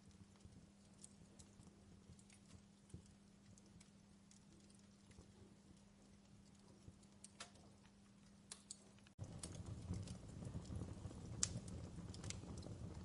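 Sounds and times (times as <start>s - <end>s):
fireplace crackling: 0.0s - 13.0s.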